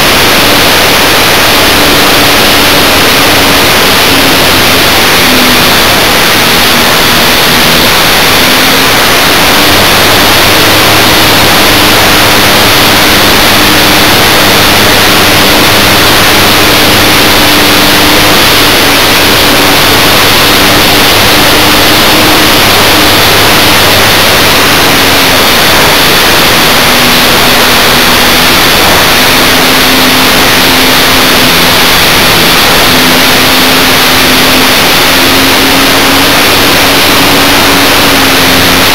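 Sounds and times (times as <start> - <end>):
electric motor and propeller hum: 0.0 - 38.9
wind hiss: 0.0 - 38.9.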